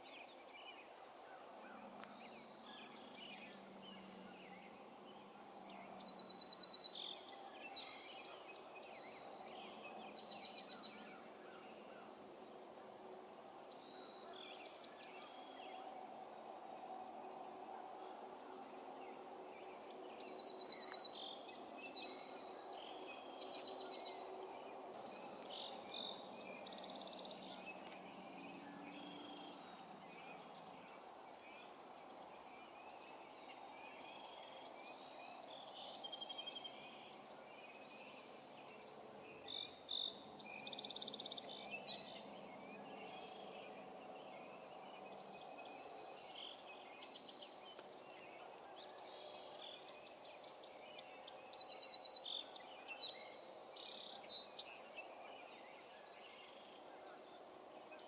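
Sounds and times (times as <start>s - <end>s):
birds chirping and trilling: 0.0s - 58.0s.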